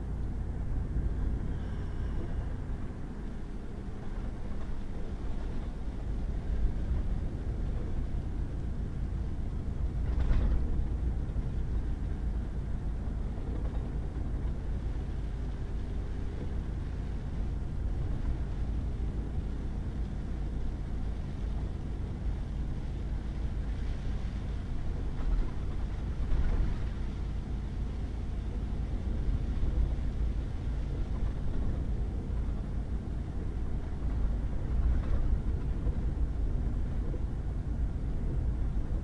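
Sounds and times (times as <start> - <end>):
truck engine and tyres rumbling: 0.0 - 39.0.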